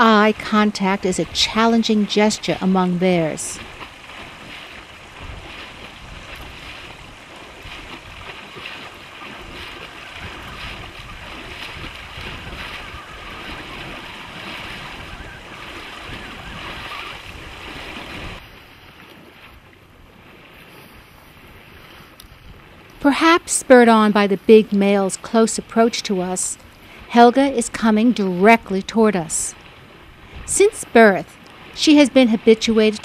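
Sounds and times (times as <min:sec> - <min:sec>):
water noise: 0:00.0 - 0:33.0
wind: 0:00.0 - 0:33.0.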